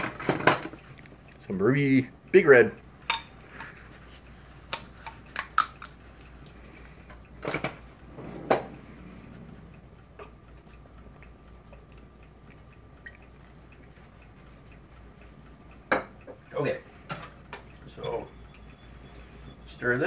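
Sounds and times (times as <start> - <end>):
faint ticking: 0.7 - 20.0.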